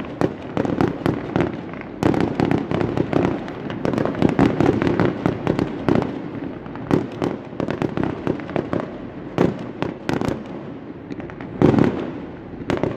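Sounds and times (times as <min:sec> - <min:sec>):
fireworks booms and cracks: 0:00.0 - 0:12.9.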